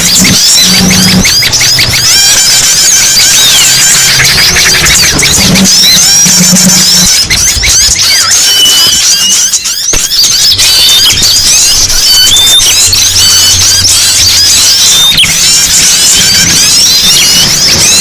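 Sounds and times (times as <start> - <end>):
songbirds chirping and twittering: 0.0 - 18.0.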